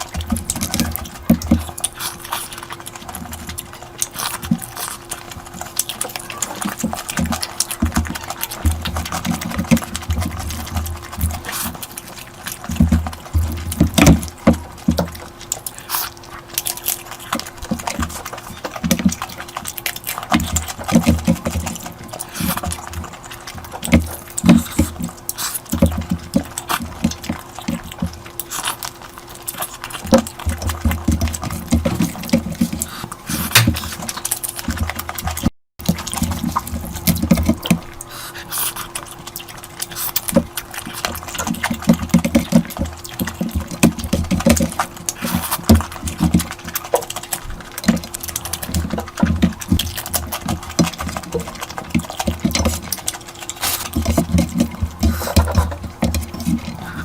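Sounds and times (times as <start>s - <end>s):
wet chewing and slurping: 0.0s - 57.0s.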